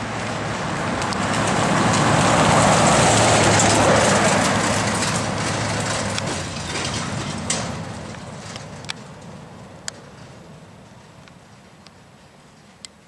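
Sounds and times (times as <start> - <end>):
heavy truck driving past: 0.0 - 11.2.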